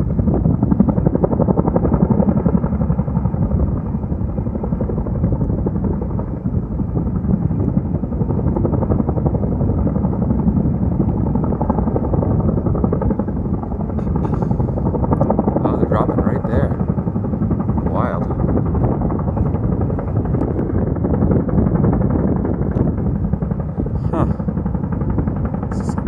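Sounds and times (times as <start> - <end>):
helicopter engine noise: 0.0 - 26.0
helicopter rotor blades beating: 0.0 - 26.0.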